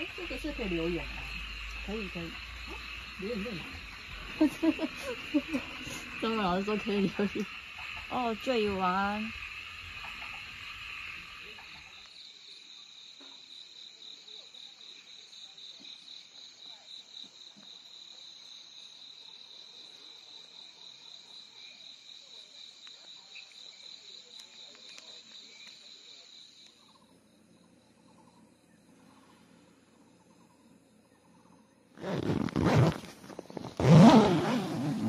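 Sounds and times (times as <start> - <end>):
night insects chirping: 0.0 - 35.0.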